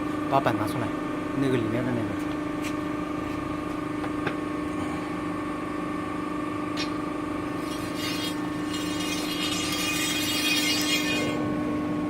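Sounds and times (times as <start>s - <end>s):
hydraulic pump humming: 0.9s - 12.0s.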